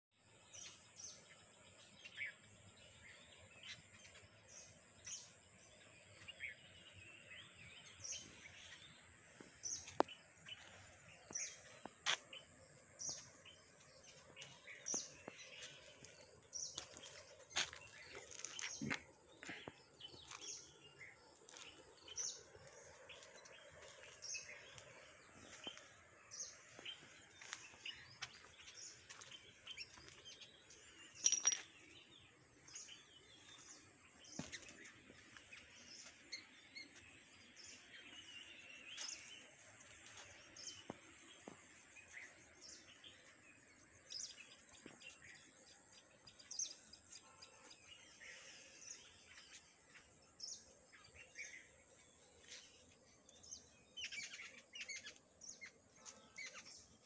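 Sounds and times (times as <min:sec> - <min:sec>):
birds chirping: 0:00.2 - 0:57.0.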